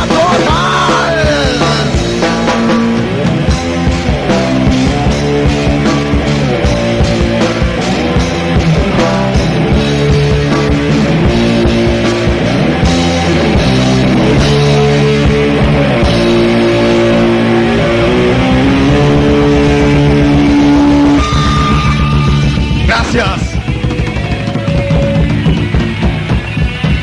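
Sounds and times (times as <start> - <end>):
heavy metal band playing: 0.0 - 27.0.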